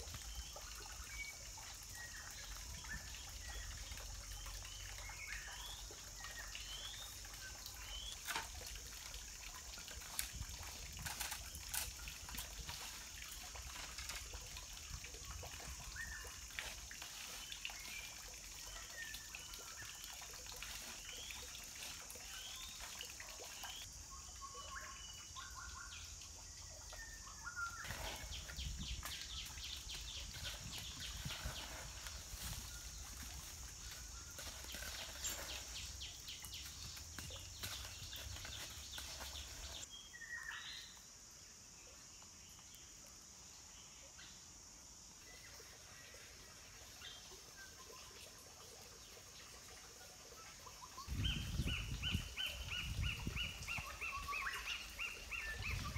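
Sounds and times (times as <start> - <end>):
steady high-pitched hiss: 0.0 - 55.9.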